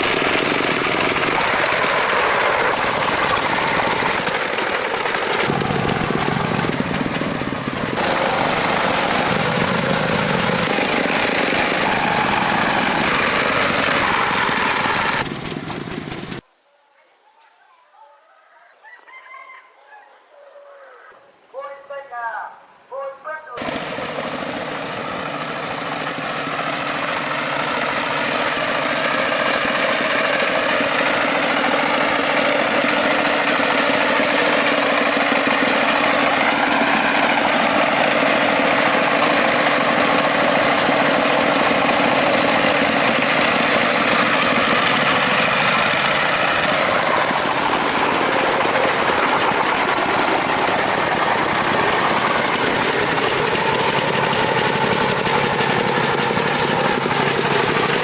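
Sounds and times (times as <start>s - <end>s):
truck engine running: 0.0s - 16.4s, 23.6s - 58.0s.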